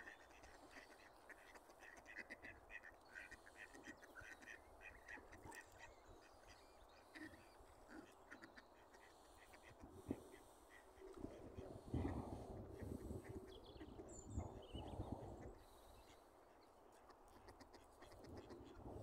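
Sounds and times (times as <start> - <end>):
ducks quacking faintly: 0.0 - 19.0.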